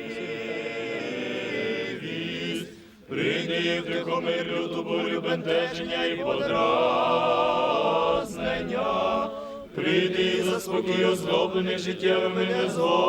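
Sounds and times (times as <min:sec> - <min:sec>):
choir singing a slow chant: 0:00.0 - 0:13.0.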